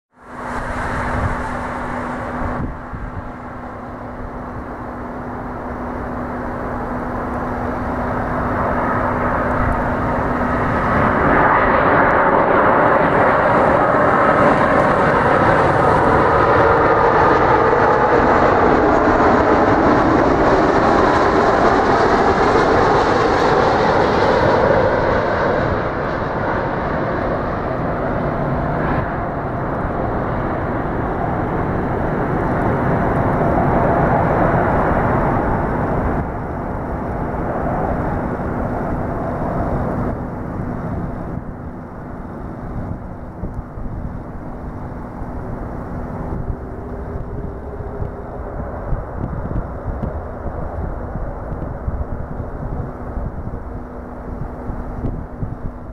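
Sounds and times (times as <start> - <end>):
jet aircraft roar: 0.1 - 55.9.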